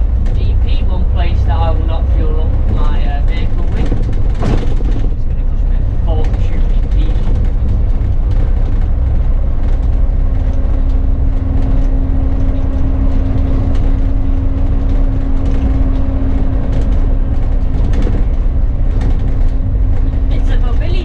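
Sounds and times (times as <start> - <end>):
bus engine rumble: 0.0 - 21.0
steady humming tone: 0.0 - 21.0.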